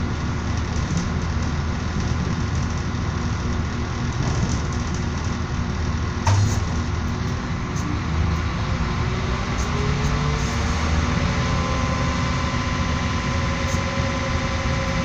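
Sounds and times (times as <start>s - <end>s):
engine-like hum: 0.0s - 15.0s
train running rumble: 0.0s - 15.0s.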